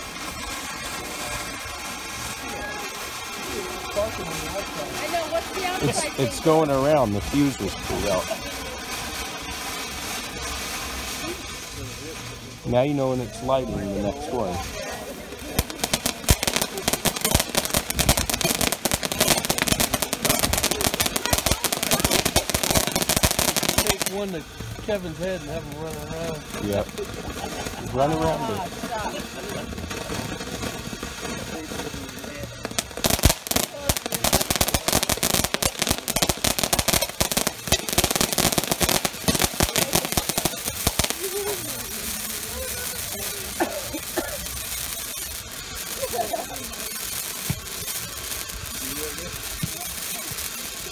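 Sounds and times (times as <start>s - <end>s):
firework crackling: 0.0s - 50.9s
firework stars popping: 0.0s - 50.9s.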